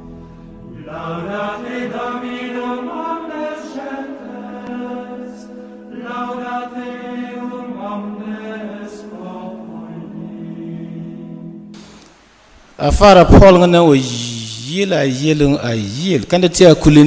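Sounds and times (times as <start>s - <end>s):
voices singing held notes: 0.6s - 12.0s, 12.8s - 17.0s.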